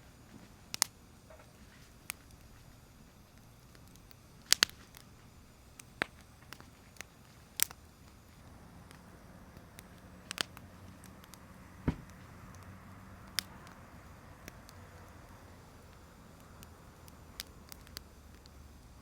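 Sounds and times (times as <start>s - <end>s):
campfire crackling and popping: 0.0s - 19.0s
low hiss of burning: 0.0s - 19.0s.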